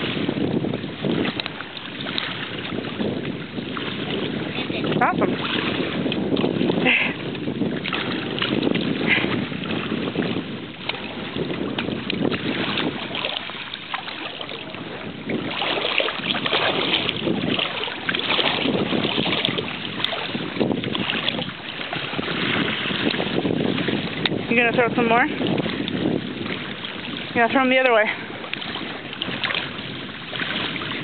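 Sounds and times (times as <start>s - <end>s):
shallow water sloshing: 0.0s - 31.0s
small water splashes: 0.0s - 31.0s
wind on microphone: 0.0s - 31.0s.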